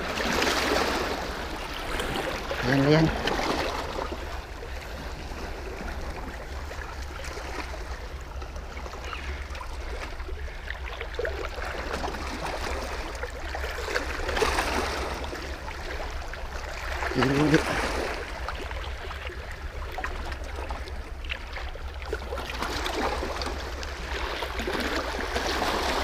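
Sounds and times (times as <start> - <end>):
sea water lapping against rocks: 0.0 - 26.0.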